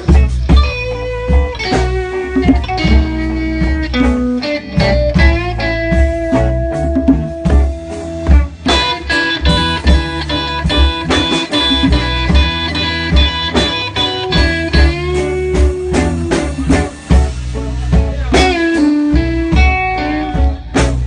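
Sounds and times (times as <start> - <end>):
bass and drums beat: 0.0 - 21.0
blues guitar lead: 0.0 - 21.0.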